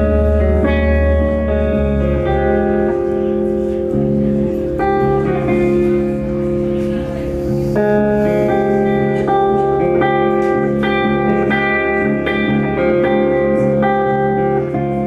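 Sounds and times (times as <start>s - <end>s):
picked guitar notes: 0.0s - 15.0s.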